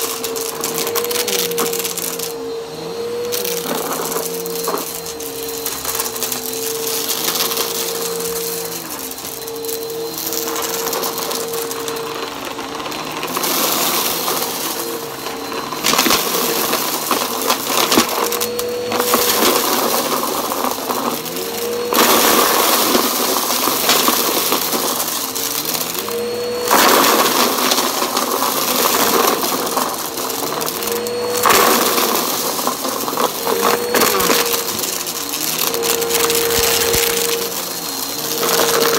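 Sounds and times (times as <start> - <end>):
vacuum cleaner running on carpet: 0.0 - 38.9.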